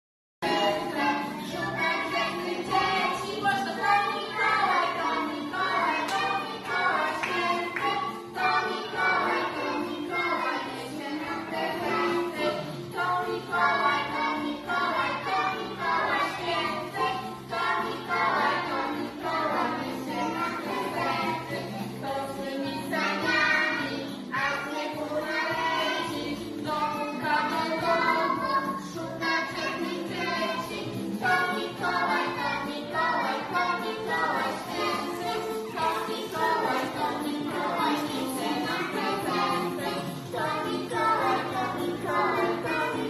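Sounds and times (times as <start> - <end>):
children singing: 0.4 - 43.0
instrumental backing music: 0.4 - 43.0.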